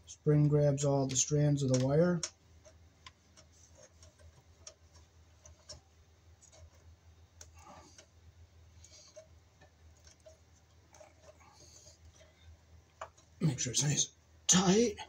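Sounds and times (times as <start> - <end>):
wire nut twisting clicks and scrapes: 0.1 - 13.4.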